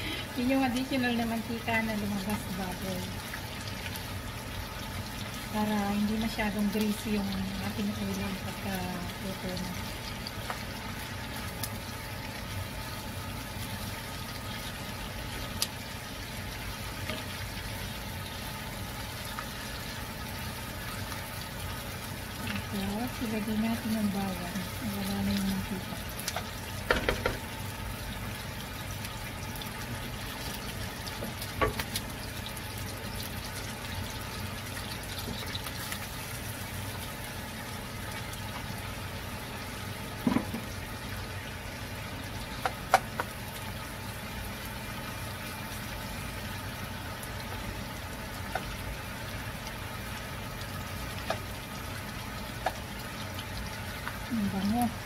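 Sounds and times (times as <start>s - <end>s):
onions sizzling in a wok: 0.0s - 55.0s.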